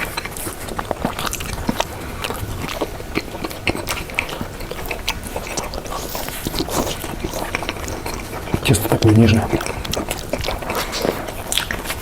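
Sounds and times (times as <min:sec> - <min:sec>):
biting and chewing: 0:00.0 - 0:12.0.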